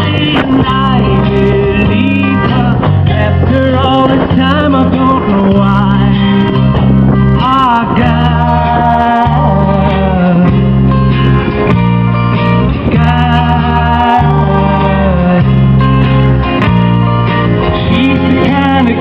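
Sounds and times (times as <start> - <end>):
person singing long notes: 0.0 - 11.0, 12.7 - 16.4, 17.7 - 19.0
bass line: 0.0 - 19.0
strummed guitar: 0.0 - 19.0.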